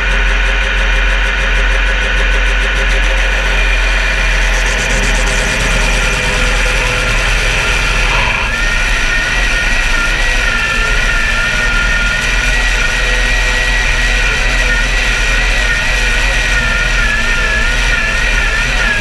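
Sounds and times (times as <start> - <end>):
tractor engine running loud: 0.0 - 19.0
high wavering whine: 2.4 - 19.0.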